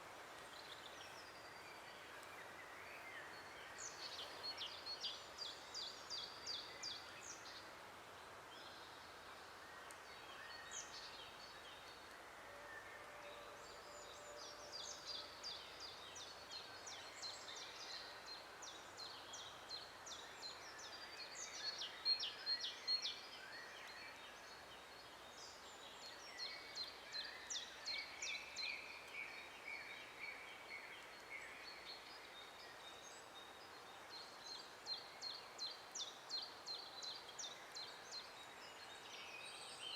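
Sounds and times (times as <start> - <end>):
soft background hiss: 0.0 - 39.9
songbirds singing: 0.0 - 39.9.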